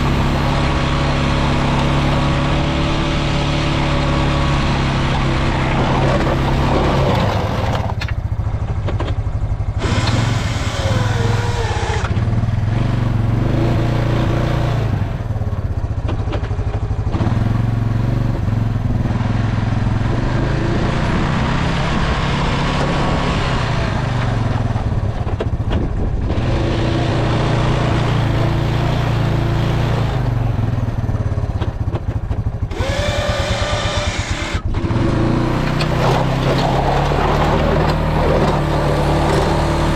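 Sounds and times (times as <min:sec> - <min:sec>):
snow plow vehicle engine: 0:00.0 - 0:39.9.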